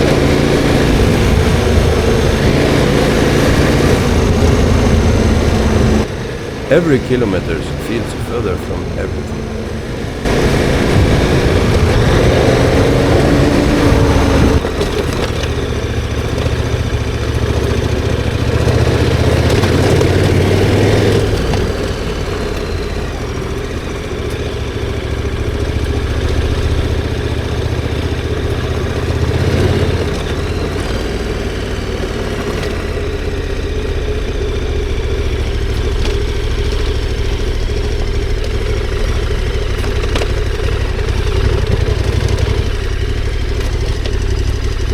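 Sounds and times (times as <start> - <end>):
motorcycle engine running: 0.0 - 6.7, 9.0 - 44.9.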